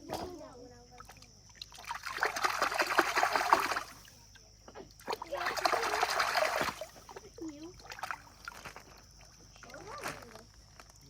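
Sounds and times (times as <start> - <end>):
water splashing: 0.9 - 10.4.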